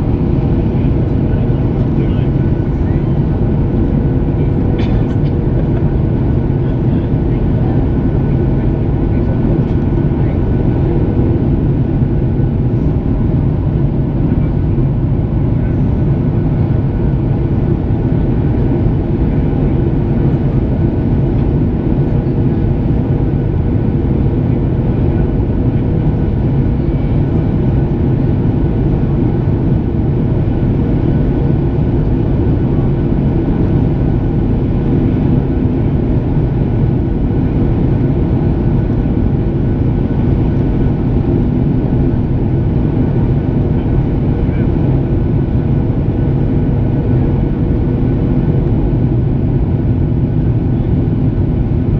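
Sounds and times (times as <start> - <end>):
airplane cabin engine rush: 0.0 - 51.9.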